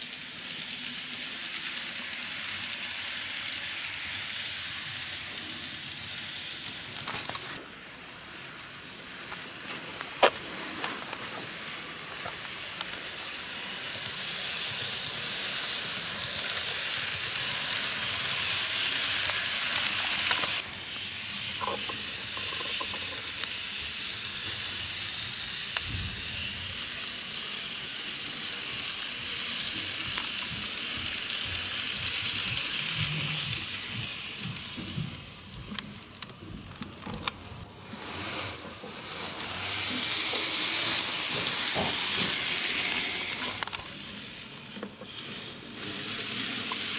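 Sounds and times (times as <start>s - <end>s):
model train motor hissing: 0.0s - 46.9s.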